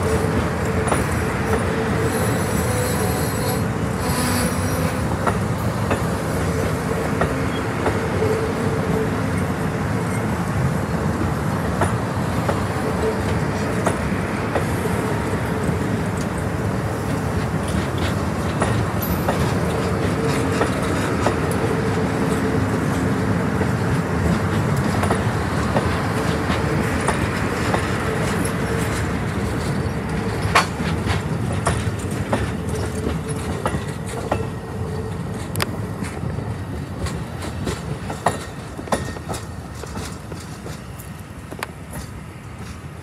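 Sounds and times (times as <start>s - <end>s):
train wheels rumbling on rail: 0.0s - 43.0s
wheels clacking over rail joints: 0.0s - 43.0s.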